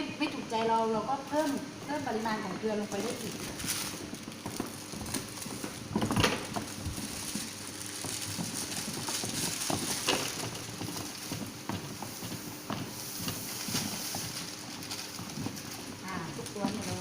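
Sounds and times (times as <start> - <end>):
containers knocking and clicking: 2.4 - 17.0.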